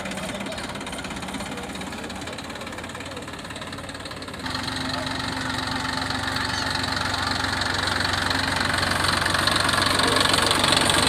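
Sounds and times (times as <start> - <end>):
threshing machine engine running: 0.0 - 11.0.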